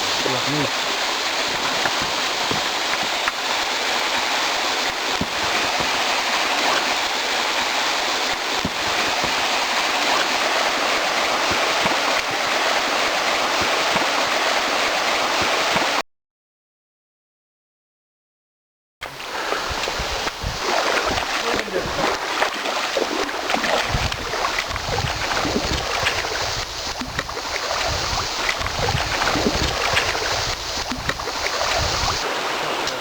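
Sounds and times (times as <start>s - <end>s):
rushing water: 0.0s - 16.0s, 19.0s - 33.0s.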